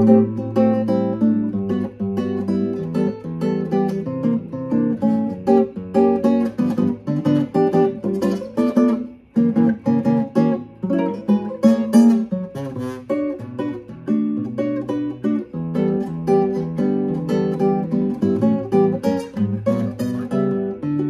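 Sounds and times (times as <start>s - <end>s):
classical guitar fingerstyle: 0.0s - 21.0s.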